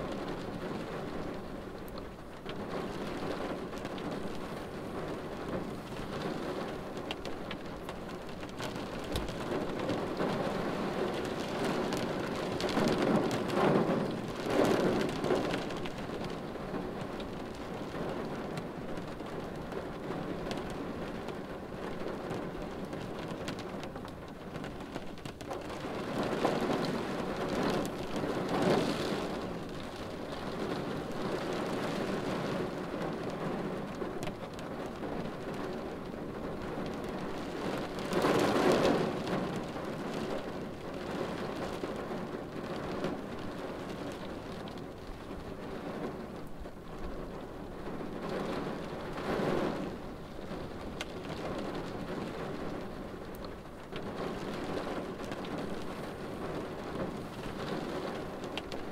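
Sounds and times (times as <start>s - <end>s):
rain on a car windshield: 0.0s - 58.9s.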